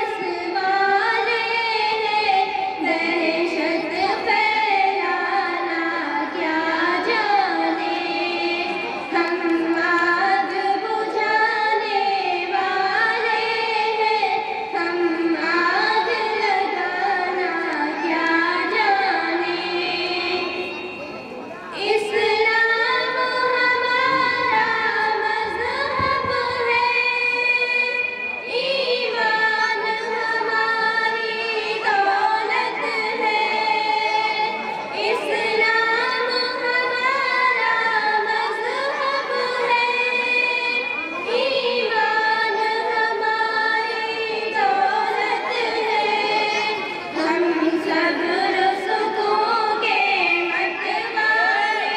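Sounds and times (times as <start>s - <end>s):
girls singing together: 0.0s - 51.9s.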